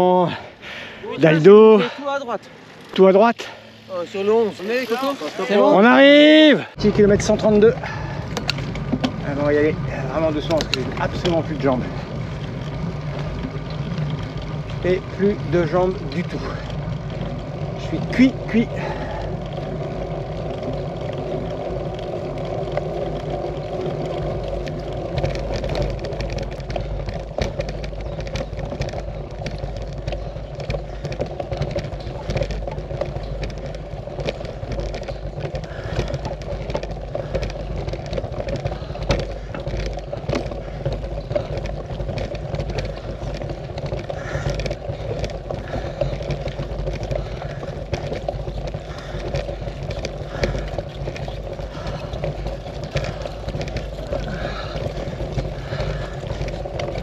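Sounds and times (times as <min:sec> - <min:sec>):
road rumble: 0:00.0 - 0:57.0
small clicks and rattles: 0:06.8 - 0:57.0.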